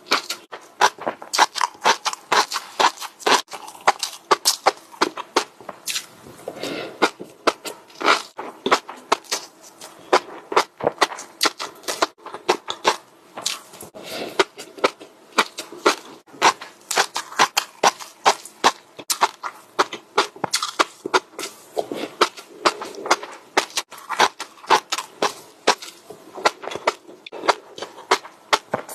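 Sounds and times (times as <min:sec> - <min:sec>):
chewing crunchy food: 0:00.0 - 0:28.9.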